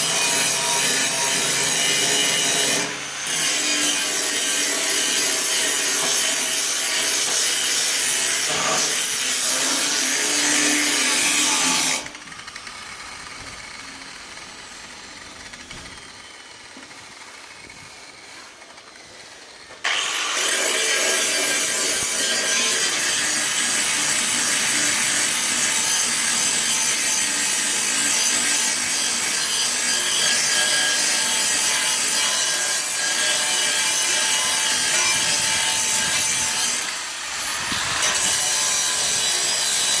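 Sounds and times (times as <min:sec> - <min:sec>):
grinder grinding steel: 0:00.0 - 0:40.0.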